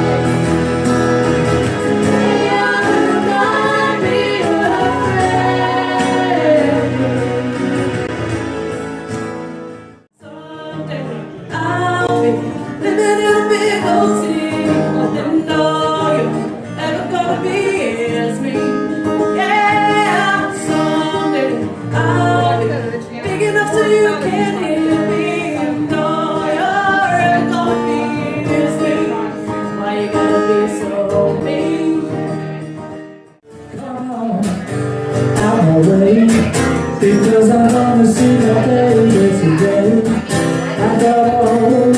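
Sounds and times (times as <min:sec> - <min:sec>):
instrumental backing music: 0:00.0 - 0:41.9
person singing: 0:01.7 - 0:08.7, 0:10.2 - 0:32.5, 0:33.7 - 0:41.9.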